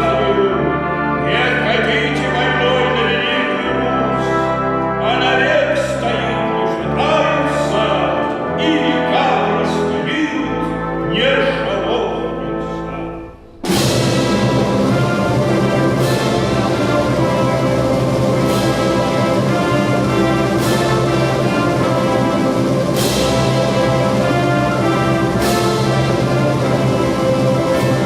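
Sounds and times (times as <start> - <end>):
folk orchestra and voices: 0.0 - 28.0.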